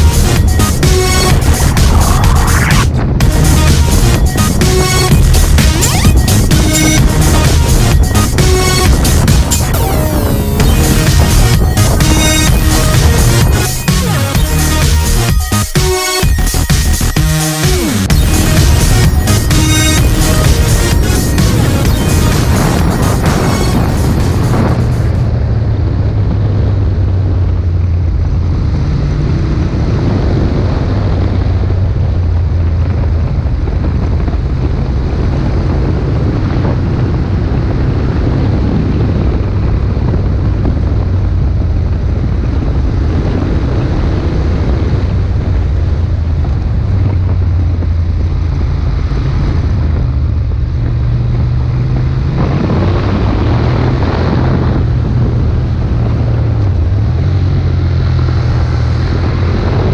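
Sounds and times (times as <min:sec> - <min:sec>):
wind noise on microphone: 0:00.0 - 0:17.2, 0:18.0 - 0:59.9
motorcycle engine revving: 0:00.0 - 0:59.9.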